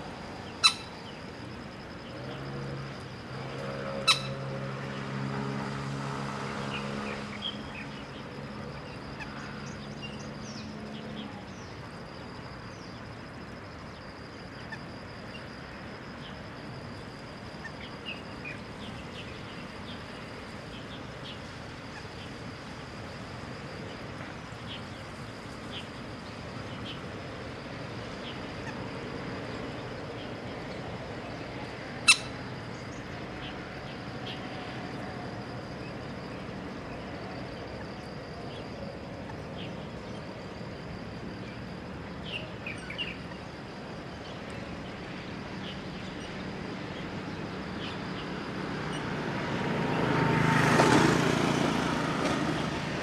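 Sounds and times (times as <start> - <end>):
low steady drone: 0.0 - 53.0
steady outdoor hiss: 0.0 - 53.0.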